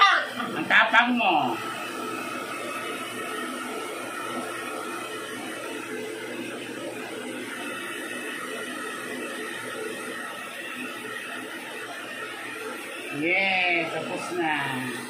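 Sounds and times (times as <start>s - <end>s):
steady motor whir: 0.0s - 15.0s.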